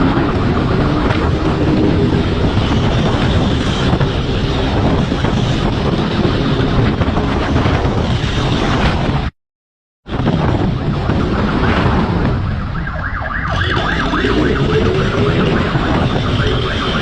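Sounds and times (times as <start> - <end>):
wind rush on microphone: 0.0 - 9.3, 10.0 - 17.0.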